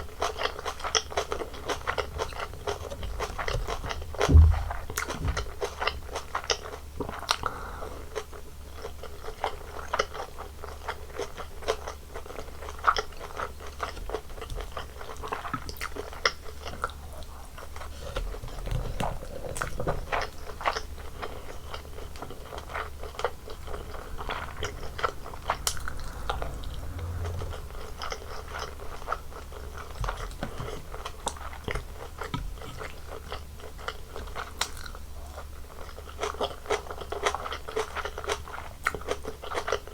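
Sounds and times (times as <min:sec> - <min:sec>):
faint low hum: 0:00.0 - 0:10.0, 0:12.1 - 0:39.7
chewing food: 0:00.0 - 0:39.9.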